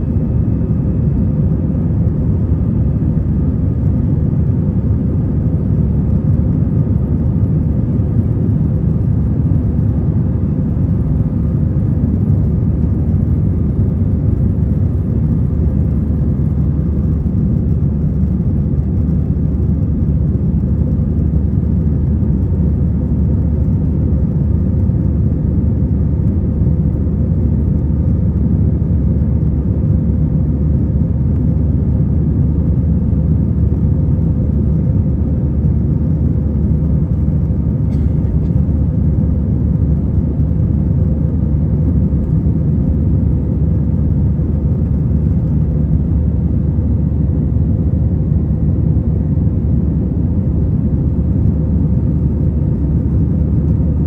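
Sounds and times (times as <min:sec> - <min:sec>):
faint steady hum: 0:00.0 - 0:54.0
jet engine and airflow rumble: 0:00.0 - 0:54.0.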